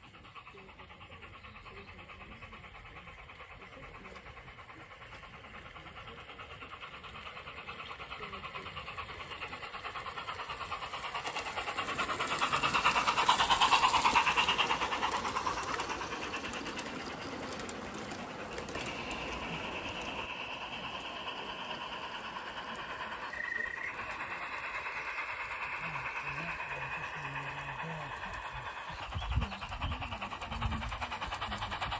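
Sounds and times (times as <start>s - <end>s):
model train wheels clicking: 0.0s - 31.9s.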